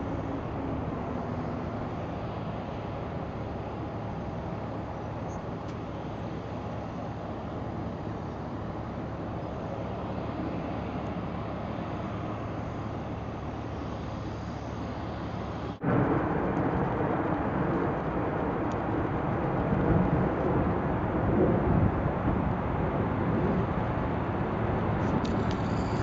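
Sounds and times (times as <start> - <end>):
close jet engine noise: 0.0 - 26.0
distant jet rumble: 0.0 - 26.0.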